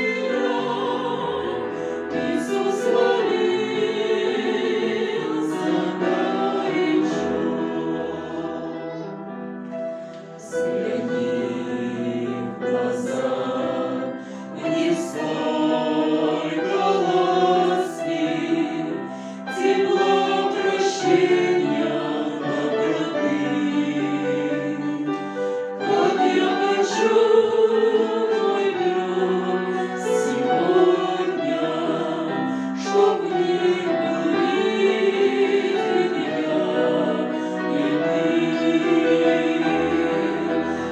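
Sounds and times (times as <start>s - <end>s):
choir singing in parts: 0.0s - 40.9s.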